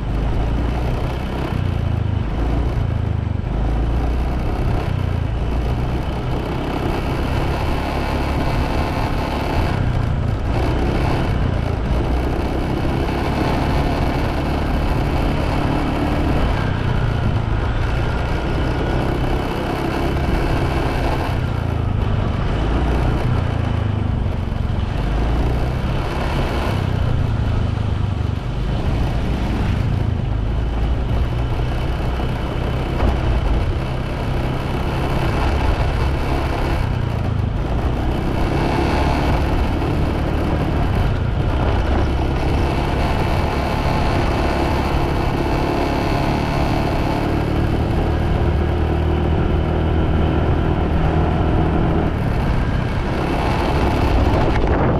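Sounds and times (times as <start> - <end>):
motorbike engine rumble: 0.0 - 54.9
road noise: 0.0 - 54.9.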